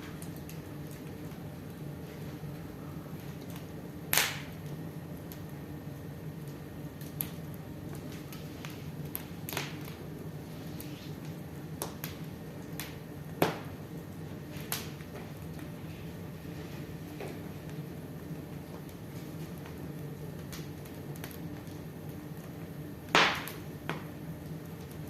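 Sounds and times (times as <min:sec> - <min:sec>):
steady low hum: 0:00.0 - 0:25.0
wood fire crackling: 0:00.0 - 0:25.0.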